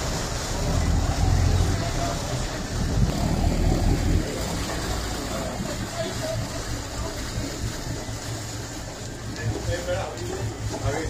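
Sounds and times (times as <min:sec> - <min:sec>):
boat engines rumbling: 0:00.0 - 0:11.0
water noise: 0:00.0 - 0:11.0
wind: 0:00.0 - 0:11.0.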